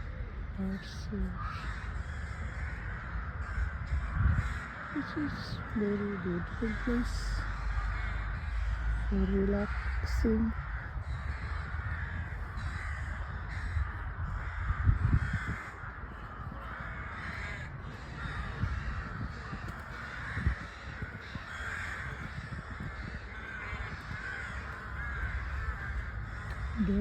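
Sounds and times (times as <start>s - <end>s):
crows cawing: 0.0s - 27.0s.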